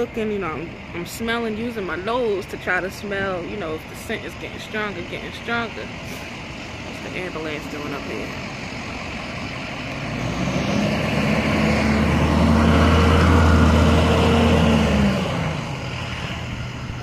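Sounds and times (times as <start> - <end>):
ambulance engine drone: 0.0 - 17.0.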